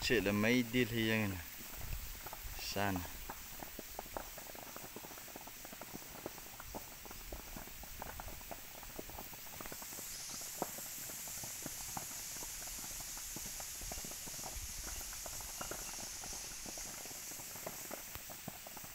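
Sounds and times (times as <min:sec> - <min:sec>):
fire crackling and popping: 0:00.0 - 0:18.9
high fire hiss: 0:00.0 - 0:18.9.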